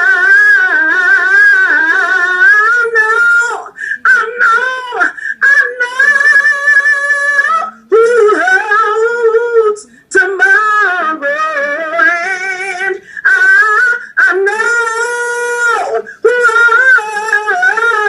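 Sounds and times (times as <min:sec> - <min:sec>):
woman singing gospel song: 0:00.0 - 0:18.0.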